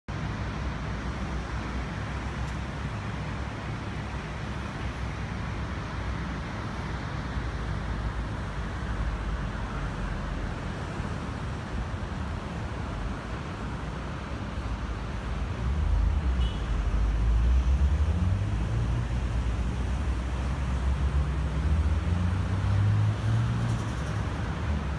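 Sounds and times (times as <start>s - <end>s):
distant road traffic: 0.1s - 24.9s.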